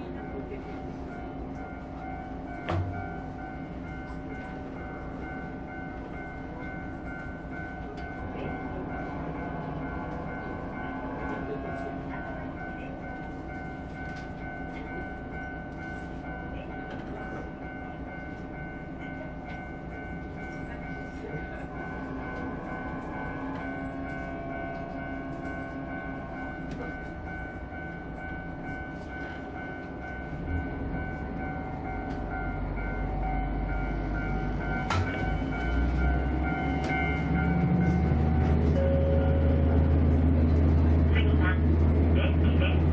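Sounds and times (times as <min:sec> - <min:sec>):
diesel railcar engine droning: 0:00.0 - 0:42.9.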